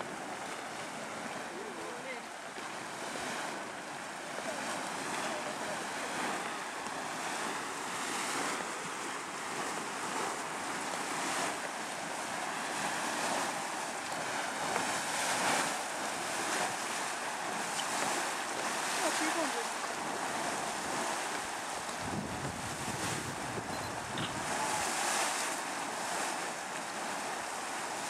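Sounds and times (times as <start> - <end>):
mud spring boiling and splashing: 0.0 - 28.0.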